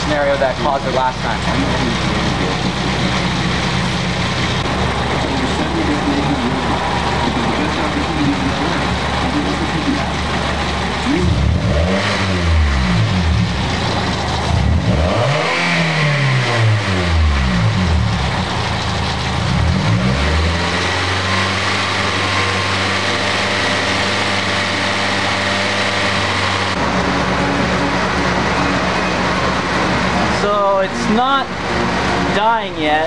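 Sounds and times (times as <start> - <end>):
car engine idling: 0.0 - 33.0
car engine revving: 0.0 - 33.0.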